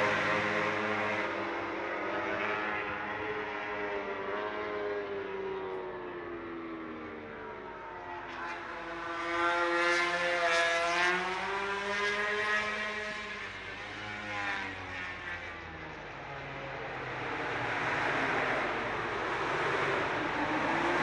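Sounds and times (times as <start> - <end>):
racing motorcycle engines revving: 0.0 - 5.1, 8.3 - 15.6, 16.2 - 21.0.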